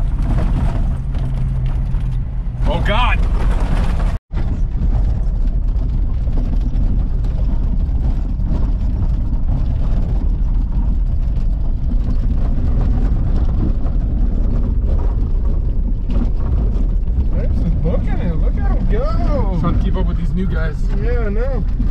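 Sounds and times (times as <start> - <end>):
engine and drivetrain rumble: 0.0 - 21.9
tyre and trail noise: 0.0 - 21.9.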